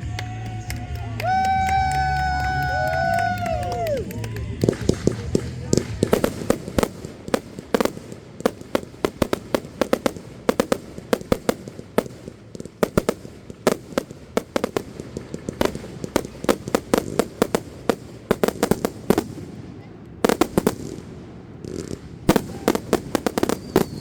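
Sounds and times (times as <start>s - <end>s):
fireworks cracking and popping: 0.0s - 24.0s.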